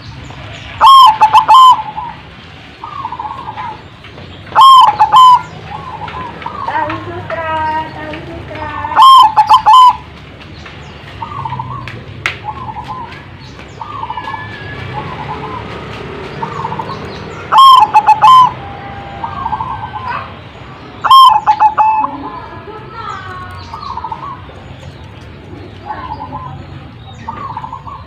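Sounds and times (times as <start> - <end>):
doves cooing: 0.0 - 10.5, 11.1 - 28.0.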